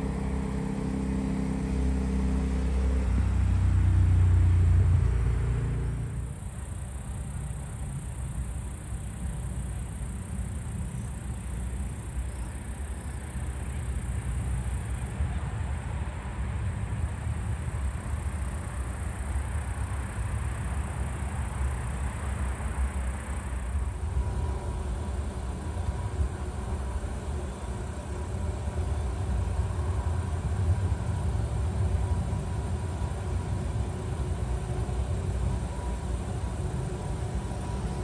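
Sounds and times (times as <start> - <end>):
passing vehicle rumble: 0.0 - 8.0, 13.2 - 38.0.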